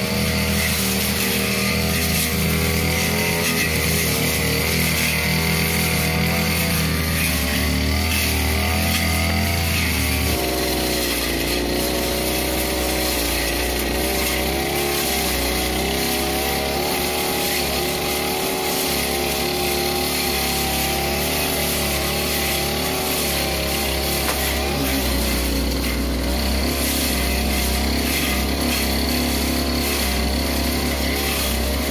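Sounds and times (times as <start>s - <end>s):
blade cutting through grass: 0.0s - 31.9s
brush cutter engine running: 0.0s - 31.9s.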